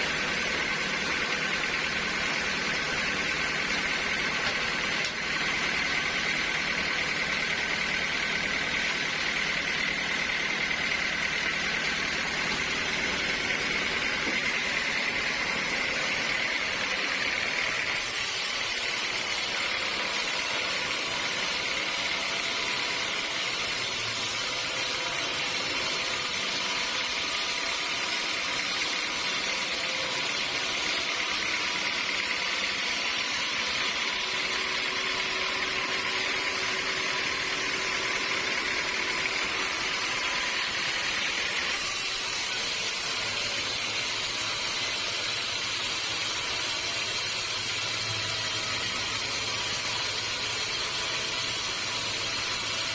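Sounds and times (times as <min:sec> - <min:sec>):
sawmill machinery whining: 0:00.0 - 0:52.9.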